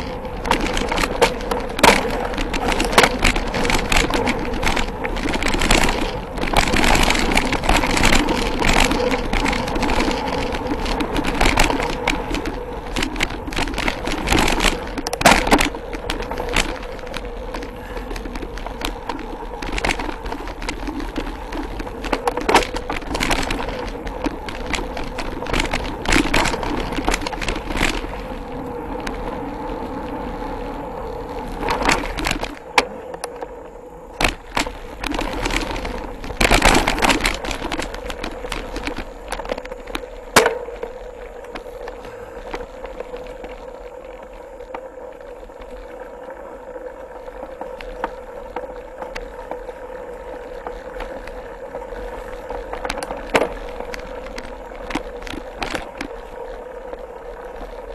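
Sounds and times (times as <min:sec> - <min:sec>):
bike clattering over bumps: 0:00.0 - 0:57.9
tyre and wind noise: 0:00.0 - 0:57.9.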